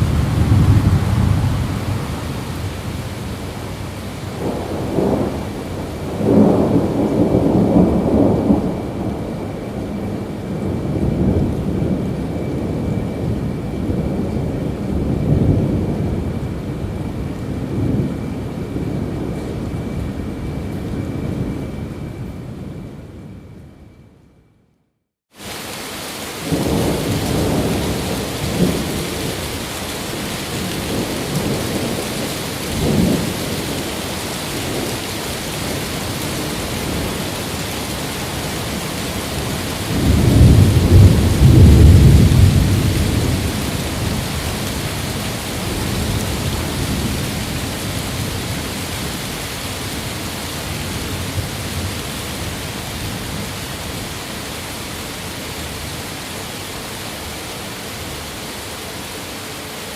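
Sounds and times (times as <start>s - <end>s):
heavy rain: 0.0s - 23.4s, 25.3s - 59.9s
rolling thunder: 0.0s - 23.9s, 26.2s - 54.1s.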